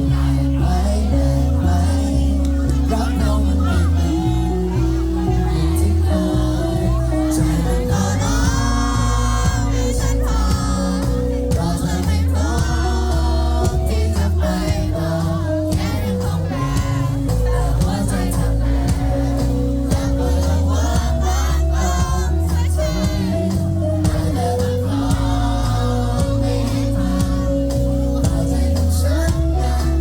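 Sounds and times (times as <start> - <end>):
person singing lead vocal: 0.0 - 30.0
pop-rock band playing: 0.0 - 30.0.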